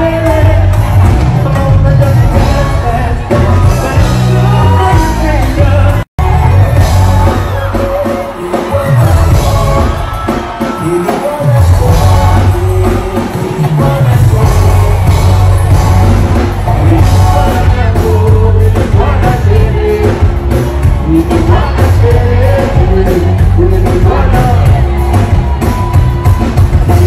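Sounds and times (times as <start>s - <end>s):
live band playing: 0.0s - 27.0s
man singing: 0.0s - 27.0s.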